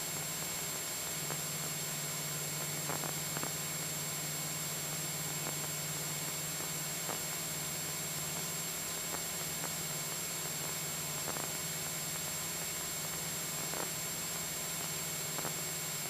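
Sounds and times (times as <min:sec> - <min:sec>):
cabin hiss: 0:00.0 - 0:16.0.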